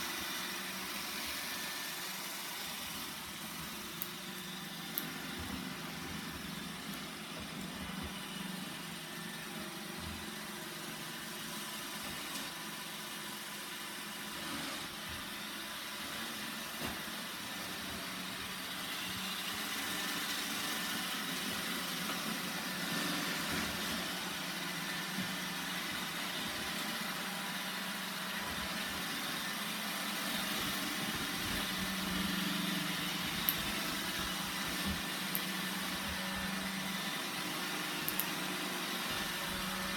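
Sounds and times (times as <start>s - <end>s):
robot vacuum motor and brush hum: 0.0s - 39.9s.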